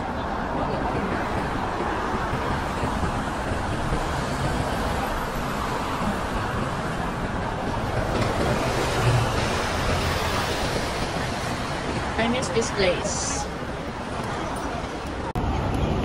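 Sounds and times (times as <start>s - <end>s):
cars and buses passing: 0.0s - 16.0s
double-decker bus passing: 0.0s - 16.0s.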